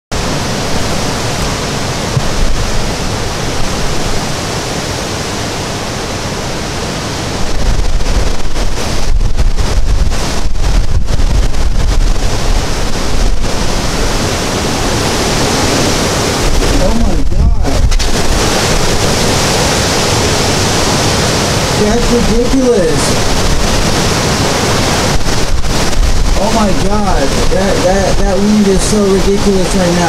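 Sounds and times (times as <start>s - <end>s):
strong wind through trees: 0.1s - 30.0s
wind buffeting microphone: 0.1s - 30.0s.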